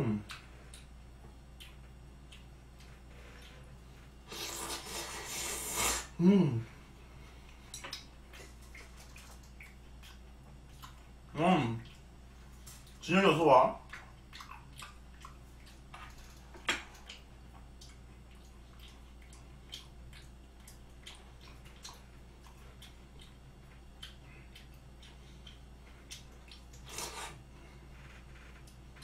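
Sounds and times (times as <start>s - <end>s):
person chewing wetly: 0.2s - 6.0s, 7.4s - 13.0s, 13.8s - 29.0s.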